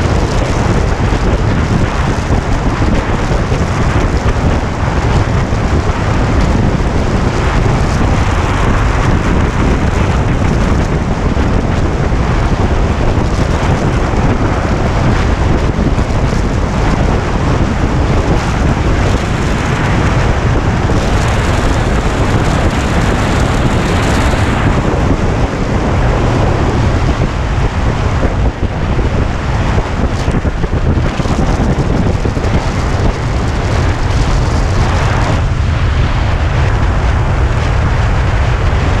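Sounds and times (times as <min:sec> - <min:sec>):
motorcycle engine: 0:00.0 - 0:39.0
road noise: 0:00.0 - 0:39.0
wind buffeting microphone: 0:00.0 - 0:39.0.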